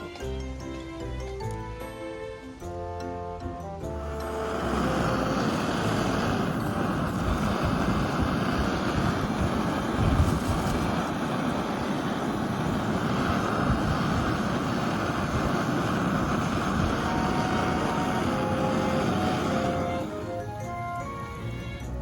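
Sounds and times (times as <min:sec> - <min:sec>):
roaring hiss of burner flame: 0:03.6 - 0:22.0.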